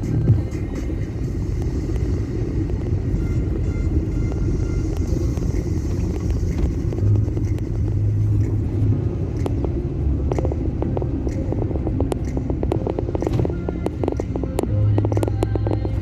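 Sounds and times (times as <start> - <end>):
car engine and road rumble: 0.0 - 16.0
low hum: 0.0 - 16.0.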